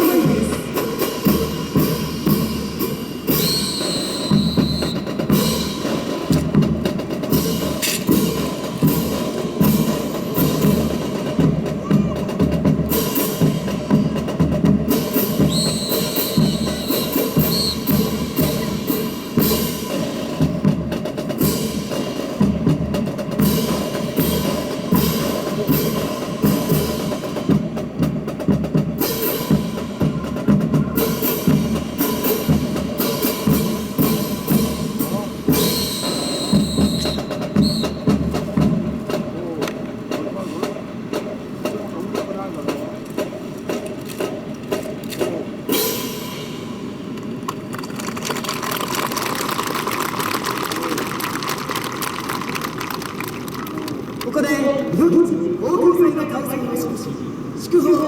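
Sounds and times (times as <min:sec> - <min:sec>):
music: 0:00.0 - 0:53.7.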